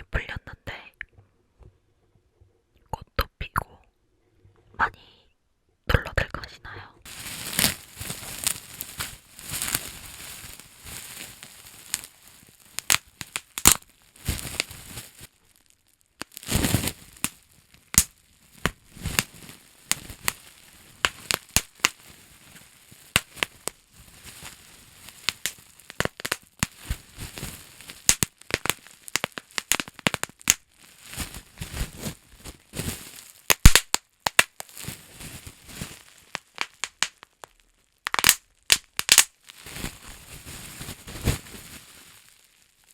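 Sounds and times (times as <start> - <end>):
bubble wrap popping: 7.0 - 42.9
plastic crinkling: 7.0 - 42.9.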